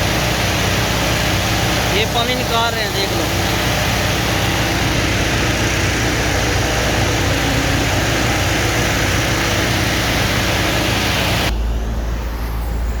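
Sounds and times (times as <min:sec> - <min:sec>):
water rushing: 0:00.0 - 0:11.5
engine-driven pump running: 0:00.0 - 0:13.0.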